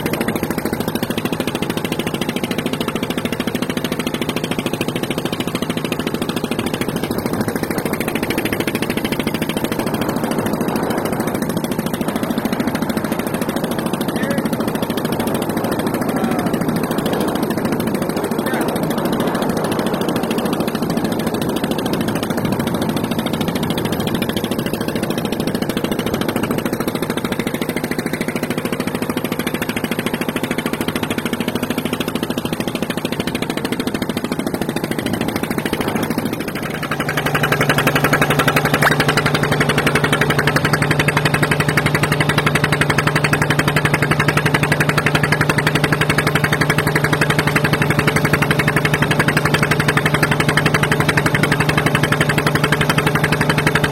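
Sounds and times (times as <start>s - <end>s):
engine running steadily: 0.0s - 53.9s.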